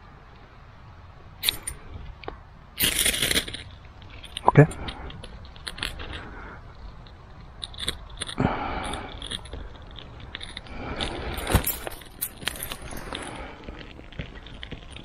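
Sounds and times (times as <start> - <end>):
small clicks and ticks: 1.4 - 15.0.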